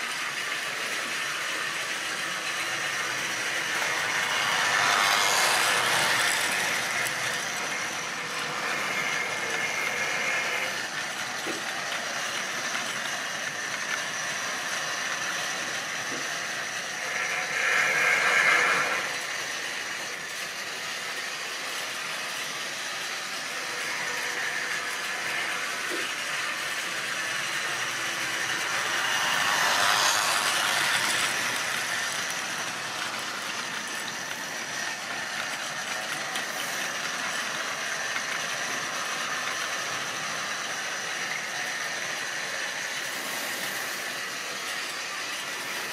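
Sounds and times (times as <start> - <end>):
model train wheels rattling: 0.0 - 45.9.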